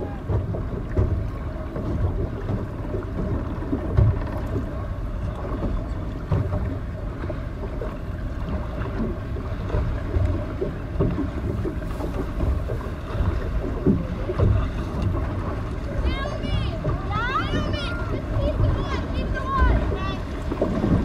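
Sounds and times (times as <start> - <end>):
low thumps of boat: 0.0 - 21.0
wind and water rumble: 0.0 - 21.0.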